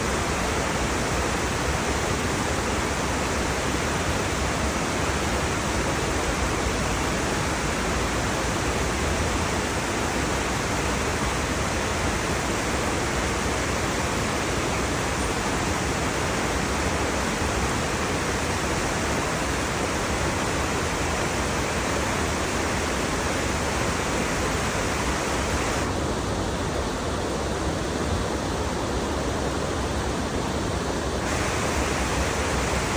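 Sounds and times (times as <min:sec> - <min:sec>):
river water rushing: 0:00.0 - 0:26.4, 0:31.2 - 0:32.9.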